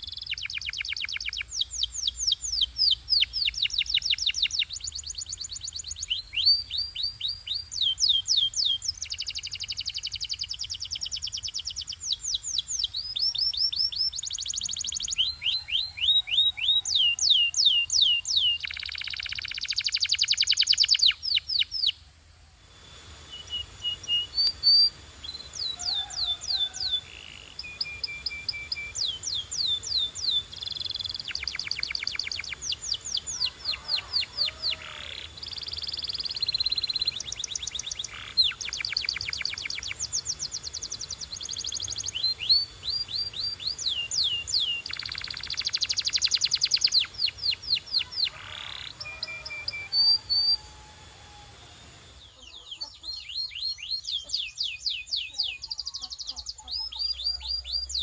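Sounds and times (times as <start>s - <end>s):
canary singing trills: 0.0s - 22.1s, 22.7s - 58.0s.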